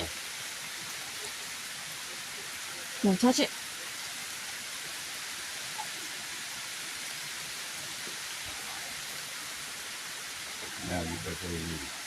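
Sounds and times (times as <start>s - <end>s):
rain falling steadily: 0.0s - 12.0s.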